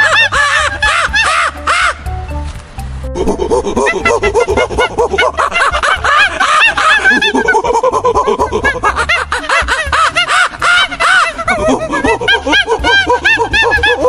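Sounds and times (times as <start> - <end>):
baboons chattering: 0.0 - 2.0, 3.2 - 14.0.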